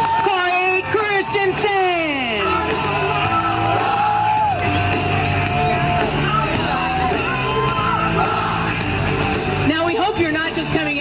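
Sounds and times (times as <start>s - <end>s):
stepping bass line: 0.6s - 11.0s.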